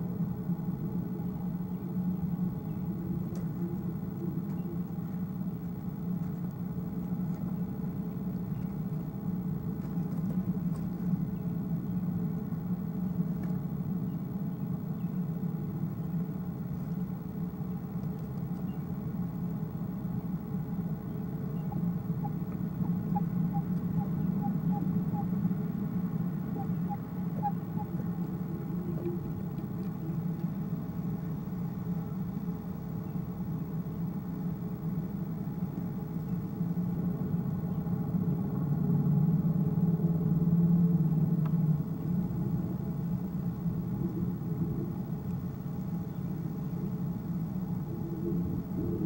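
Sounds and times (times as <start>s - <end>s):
low hum: 0.0s - 49.0s.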